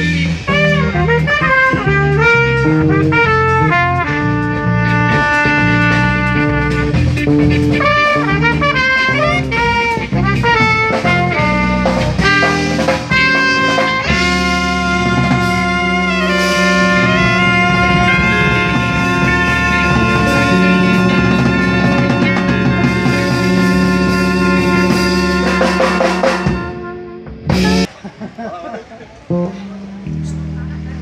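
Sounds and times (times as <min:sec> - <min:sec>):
guitar: 0:00.0 - 0:27.9, 0:29.2 - 0:31.0
saxophone: 0:00.0 - 0:27.9
trumpet: 0:00.0 - 0:27.9
drum kit: 0:00.0 - 0:28.0
electric bass: 0:00.0 - 0:28.0, 0:29.2 - 0:31.0
jazz band playing: 0:00.0 - 0:28.0, 0:29.3 - 0:31.0.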